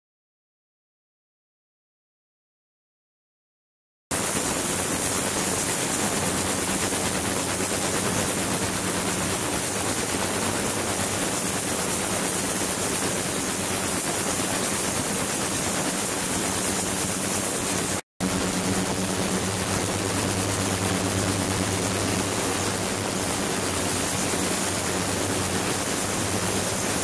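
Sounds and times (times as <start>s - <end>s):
high-pitched whine: 4.2s - 27.0s.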